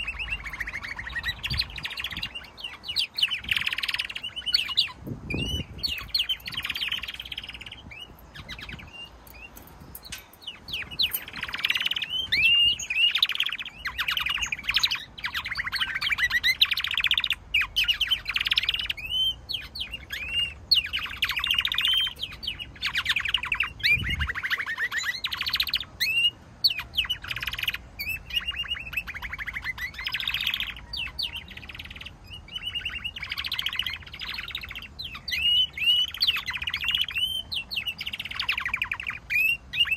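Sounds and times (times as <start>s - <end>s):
canaries singing: 0.0s - 39.9s.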